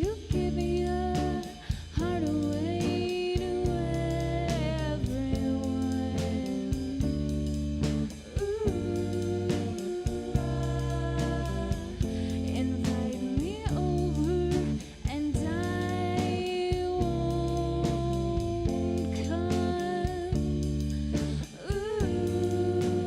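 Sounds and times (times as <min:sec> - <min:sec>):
bass and drums: 0:00.0 - 0:23.0
bluesy guitar with bending slides: 0:00.0 - 0:23.0.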